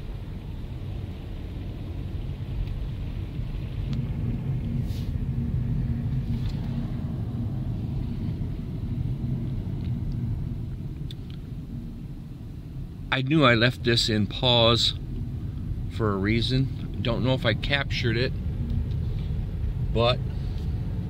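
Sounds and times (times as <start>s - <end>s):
car engine and tyres rumbling: 0.0s - 21.0s
steady hum: 0.0s - 21.0s.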